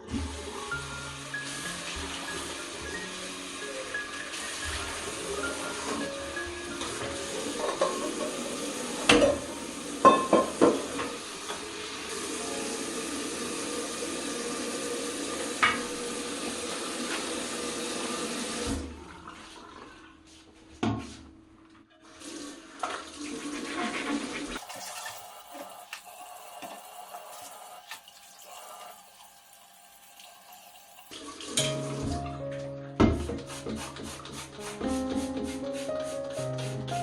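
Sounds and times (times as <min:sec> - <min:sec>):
water running: 0:00.0 - 0:21.1, 0:21.9 - 0:37.0.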